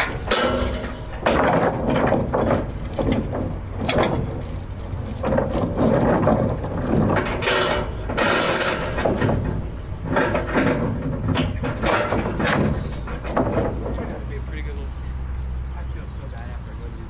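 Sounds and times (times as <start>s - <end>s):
mechanism clattering: 0.0s - 14.6s.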